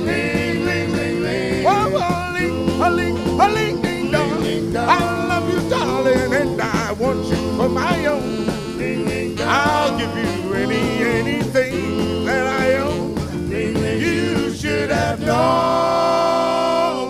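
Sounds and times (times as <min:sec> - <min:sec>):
backing band playing: 0:00.0 - 0:17.0
doo-wop group singing: 0:00.0 - 0:17.0.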